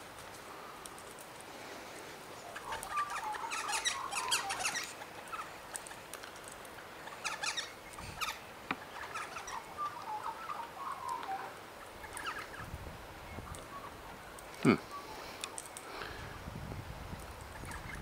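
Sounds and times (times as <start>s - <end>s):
birds chirping: 0.0s - 16.4s, 17.4s - 18.0s.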